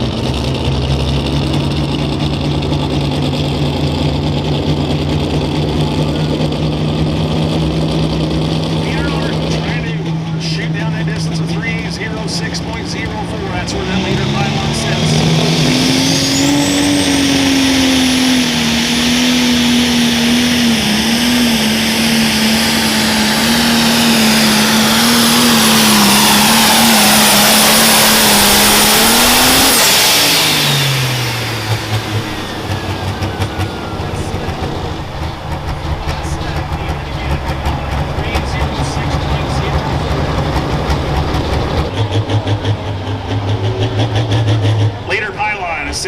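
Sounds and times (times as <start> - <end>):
diesel engine at full throttle: 0.0 - 46.0.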